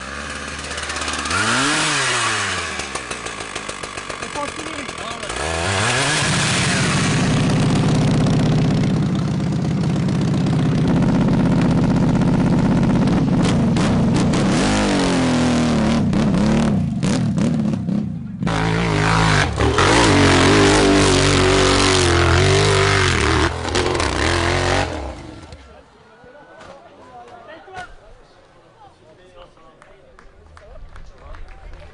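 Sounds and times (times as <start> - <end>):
motorcycle engine revving: 0.0 - 25.7.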